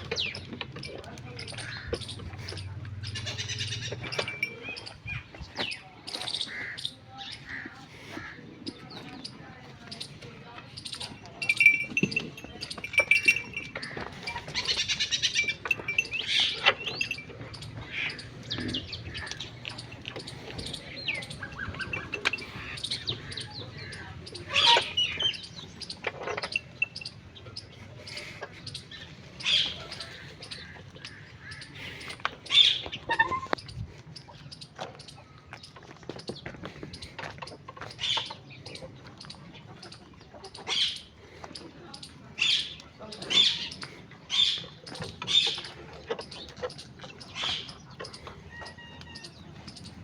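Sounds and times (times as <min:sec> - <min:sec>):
birds chirping and calling: 0:00.0 - 0:50.0.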